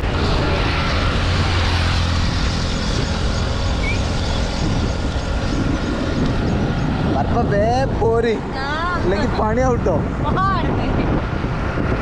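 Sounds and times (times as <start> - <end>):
road noise rushing: 0.0 - 12.0
truck passing: 0.0 - 12.0.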